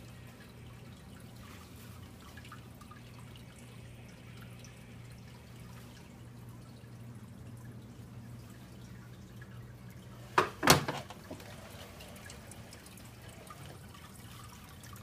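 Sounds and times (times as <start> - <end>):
steady low hum: 0.0 - 15.0
water trickling and dripping: 0.0 - 15.0.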